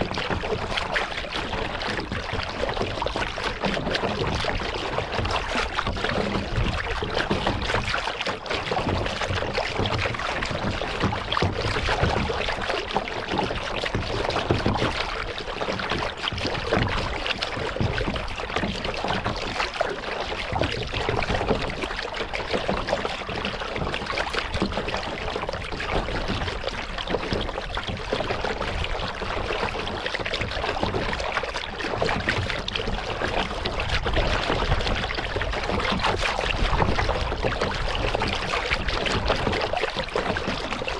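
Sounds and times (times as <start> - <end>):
paddle splashing water: 0.0 - 40.9.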